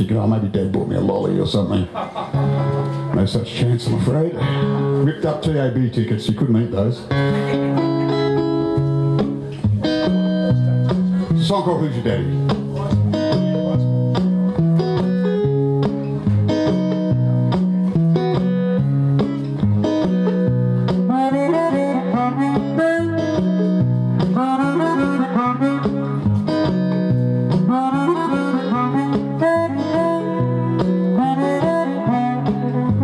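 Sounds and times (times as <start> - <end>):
resonator guitar riff: 2.3 - 5.8, 6.5 - 33.0
blues harmonica: 4.3 - 5.0, 7.1 - 33.0.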